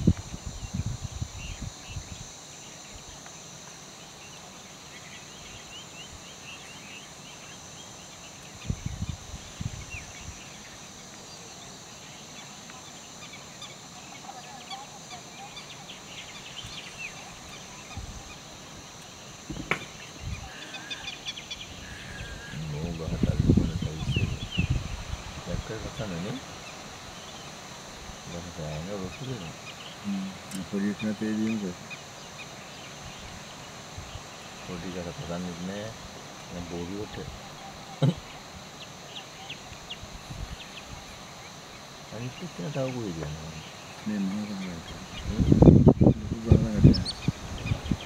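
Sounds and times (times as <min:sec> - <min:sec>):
high-pitched insect buzz: 0:00.0 - 0:48.0
birds chirping and calling: 0:01.4 - 0:27.6, 0:28.5 - 0:35.9, 0:36.6 - 0:48.0.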